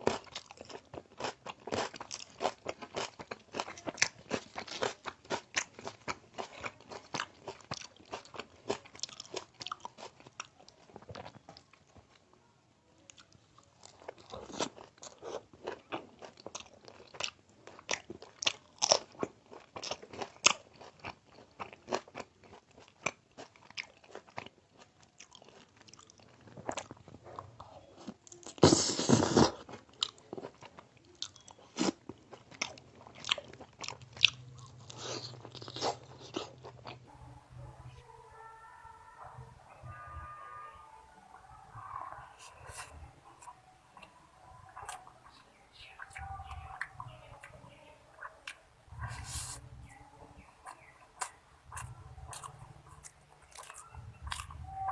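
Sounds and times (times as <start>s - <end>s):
crunchy chewing: 0.0s - 12.3s, 13.0s - 37.1s, 41.4s - 54.9s.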